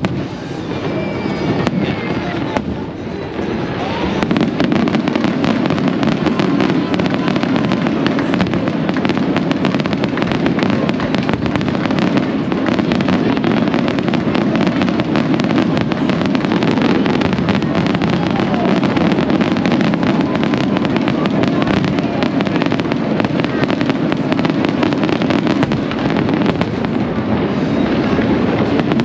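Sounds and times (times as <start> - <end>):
fireworks crackling pops: 0.0 - 29.0
low rumble of fireworks bursts: 0.0 - 29.0.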